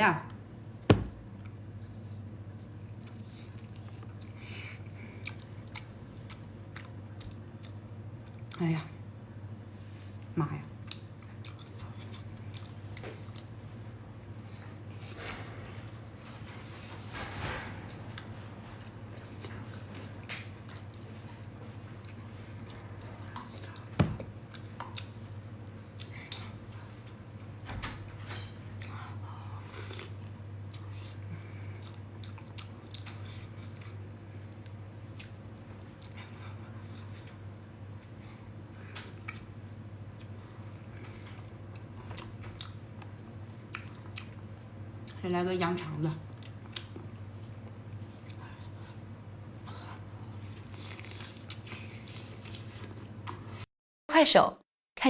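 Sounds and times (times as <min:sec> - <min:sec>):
steady low hum: 0:00.0 - 0:53.7
person chewing food: 0:01.3 - 0:08.6, 0:10.1 - 0:15.7, 0:18.8 - 0:27.6, 0:28.8 - 0:45.2, 0:46.3 - 0:53.7.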